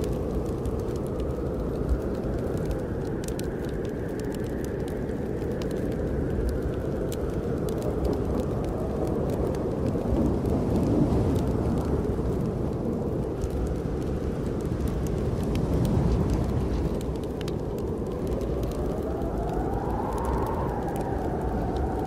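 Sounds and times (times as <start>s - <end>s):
snowstorm wind rumbling: 0.0s - 22.0s
wood fire crackling: 0.0s - 22.0s.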